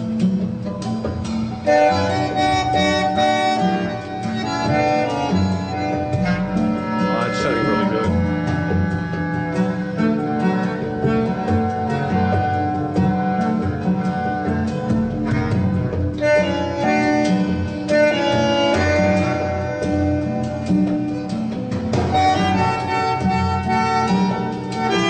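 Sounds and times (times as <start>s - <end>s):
acoustic instrumental music: 0.0s - 25.0s.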